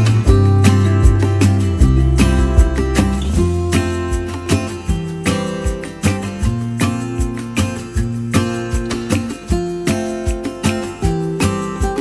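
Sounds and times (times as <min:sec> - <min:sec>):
strummed guitar over beat: 0:00.0 - 0:12.0.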